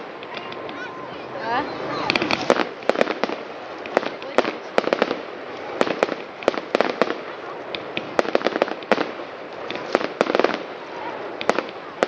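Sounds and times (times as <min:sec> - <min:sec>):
fireworks cracking and banging: 0:00.0 - 0:12.0
steady hiss: 0:00.0 - 0:12.0.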